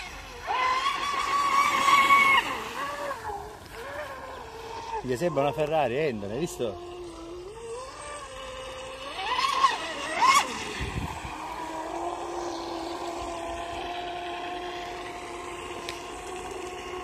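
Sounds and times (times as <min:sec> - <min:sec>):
electric boat motor whine: 0:00.0 - 0:17.0.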